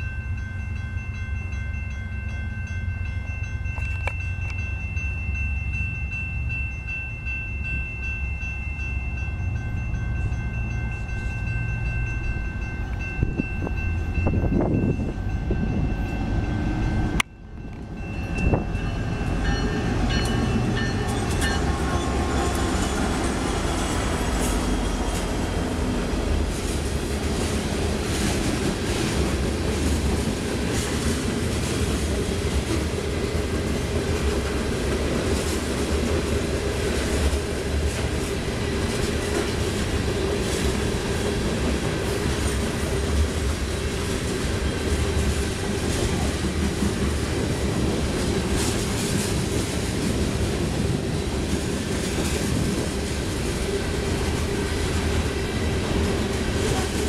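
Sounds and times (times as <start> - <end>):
diesel locomotive engines: 0.0 - 57.0
train wheels rumbling: 1.8 - 57.0.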